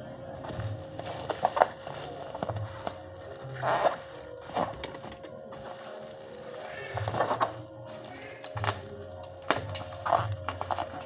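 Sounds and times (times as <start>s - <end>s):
packaging crinkling and rustling: 0.4s - 11.0s.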